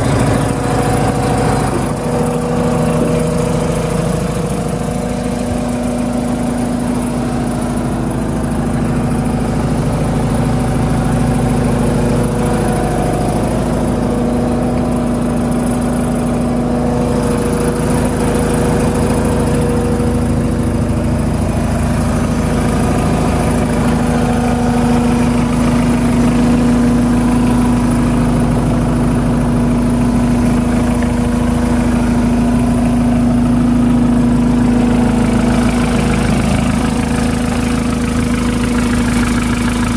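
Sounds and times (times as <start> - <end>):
skid steer engine idling: 0.0 - 39.9.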